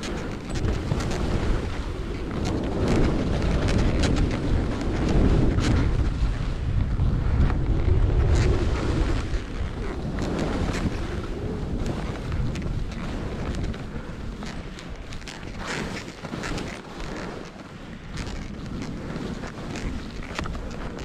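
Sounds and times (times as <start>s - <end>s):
skis scraping snow: 0.0s - 21.0s
wind buffeting microphone: 0.0s - 21.0s.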